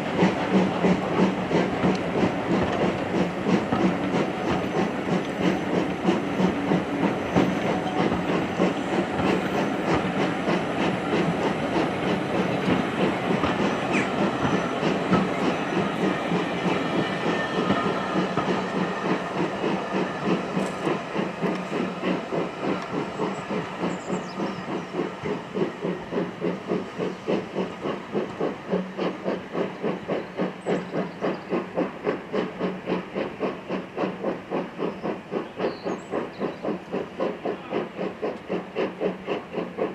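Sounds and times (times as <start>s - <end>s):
hissing steam: 0.0s - 39.9s
steam locomotive exhaust beats: 0.0s - 39.9s.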